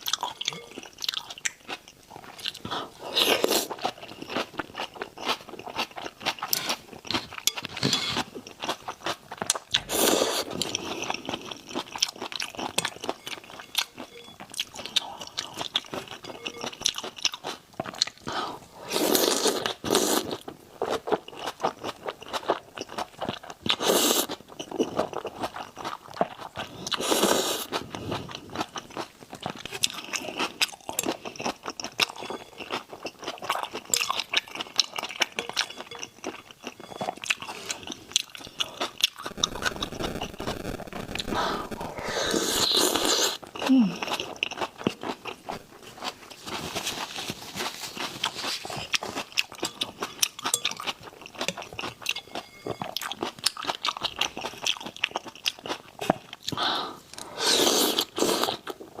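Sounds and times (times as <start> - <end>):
wet crunching and chewing: 0.0 - 59.0.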